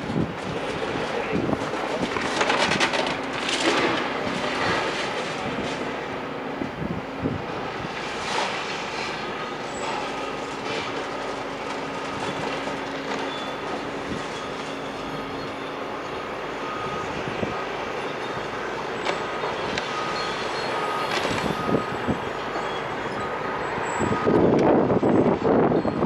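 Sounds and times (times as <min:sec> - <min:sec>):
heavy demolition machinery: 0:00.0 - 0:26.0.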